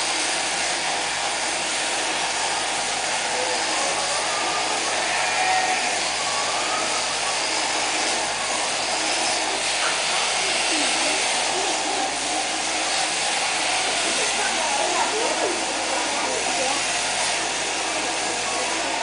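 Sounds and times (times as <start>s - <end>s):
electric shears whirring: 0.0s - 19.0s.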